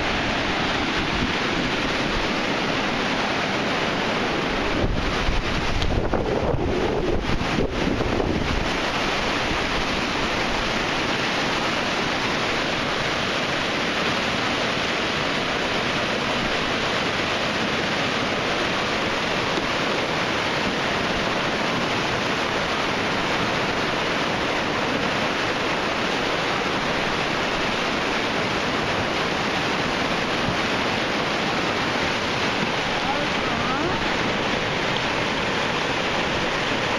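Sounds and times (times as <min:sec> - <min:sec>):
flood water rushing: 0:00.0 - 0:36.9.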